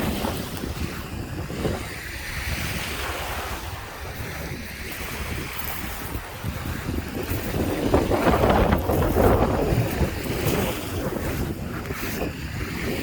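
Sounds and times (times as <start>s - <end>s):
waves washing onto shore: 0.0s - 13.0s
wind buffeting microphone: 0.0s - 13.0s.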